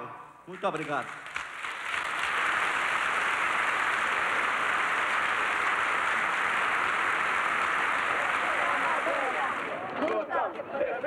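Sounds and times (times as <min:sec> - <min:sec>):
large audience applauding: 0:00.5 - 0:10.2.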